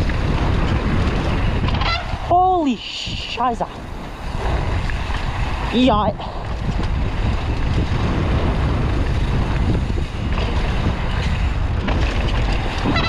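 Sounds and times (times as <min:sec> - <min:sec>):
bike tyres rolling over dirt: 0:00.0 - 0:02.6, 0:03.8 - 0:13.0
wind rushing over microphone: 0:00.0 - 0:13.0.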